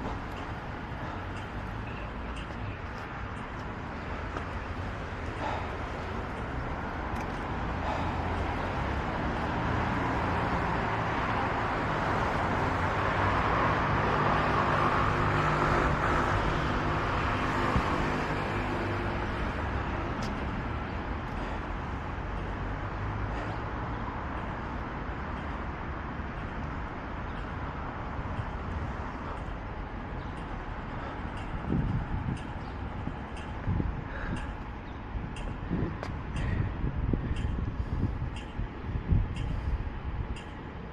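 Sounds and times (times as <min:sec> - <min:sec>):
traffic hum: 0:00.0 - 0:40.9.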